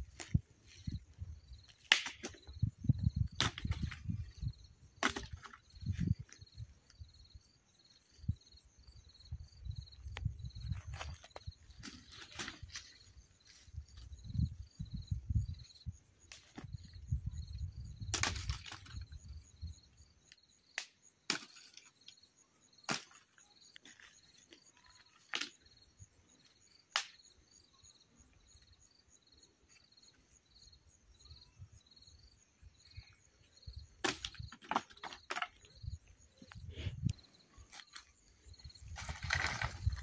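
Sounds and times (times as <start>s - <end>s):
insects chirping: 0.0s - 40.0s.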